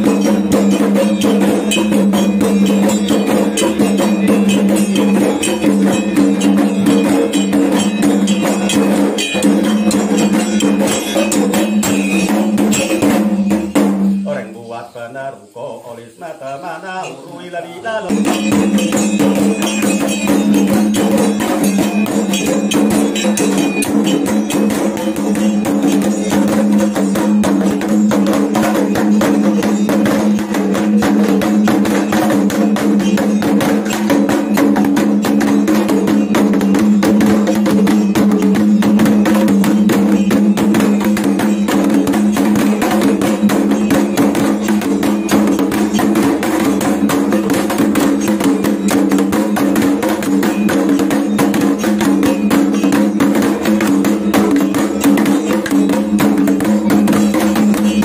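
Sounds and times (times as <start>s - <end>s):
drums beaten with sticks: 0.0s - 58.0s.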